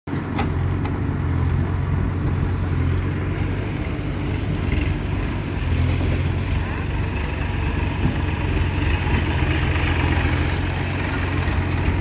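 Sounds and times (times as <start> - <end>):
diesel engine running: 0.1 - 12.0.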